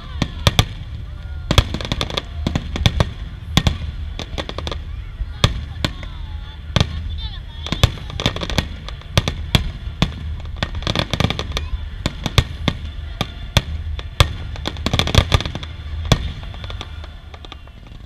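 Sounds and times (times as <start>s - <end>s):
fireworks bursting: 0.0s - 18.0s
steady low rumble: 0.0s - 18.0s.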